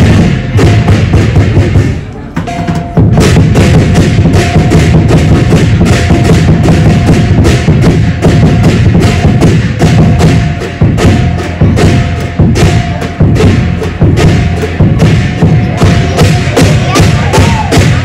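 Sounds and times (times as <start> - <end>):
big drum beating fast: 0.0 - 18.0
cymbals clashing: 0.0 - 18.0.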